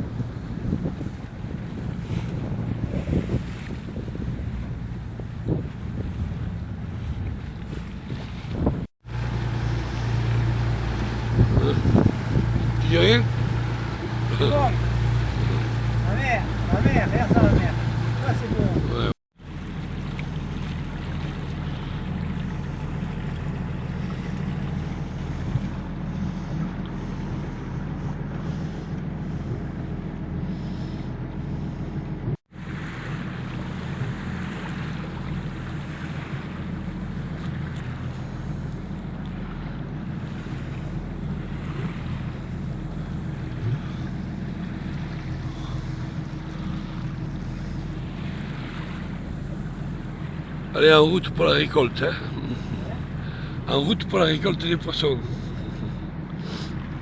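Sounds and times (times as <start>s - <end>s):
boat engine running: 0.0s - 57.0s
water noise: 0.0s - 57.0s
wind: 0.0s - 57.0s.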